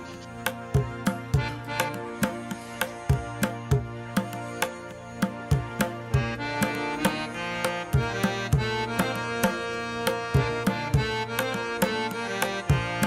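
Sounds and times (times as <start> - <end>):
held melody notes: 0.0 - 13.0
steady drum rhythm: 0.0 - 13.0.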